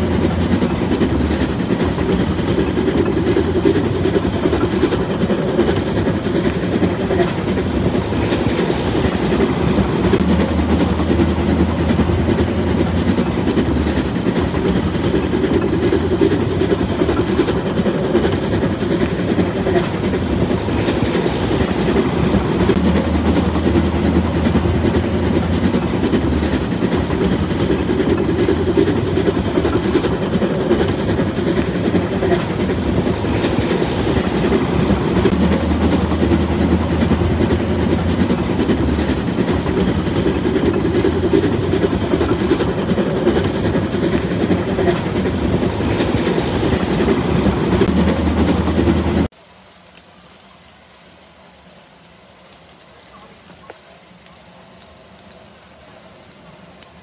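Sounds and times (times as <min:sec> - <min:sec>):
train wheels clickety-clack: 0:00.0 - 0:49.3.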